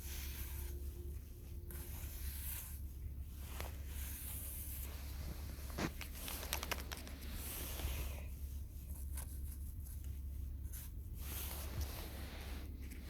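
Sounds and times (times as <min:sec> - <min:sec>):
rustling and scraping handling: 0:00.0 - 0:13.0
steady low rumble: 0:00.0 - 0:13.0.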